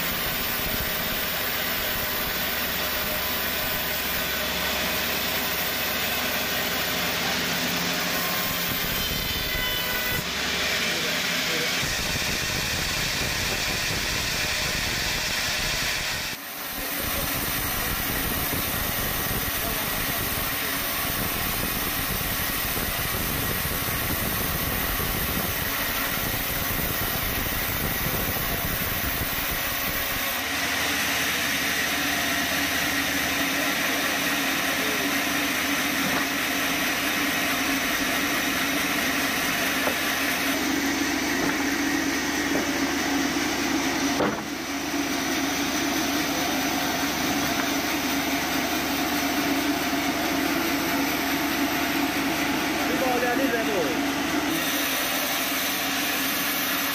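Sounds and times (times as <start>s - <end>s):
bandsaw mill running: 0.0s - 56.9s.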